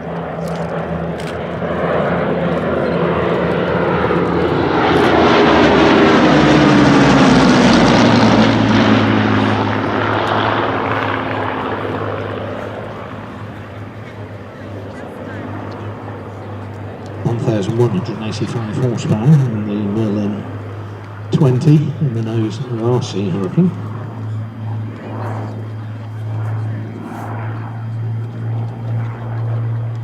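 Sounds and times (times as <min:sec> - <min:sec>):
propeller aircraft engines flypast: 0:00.0 - 0:30.0.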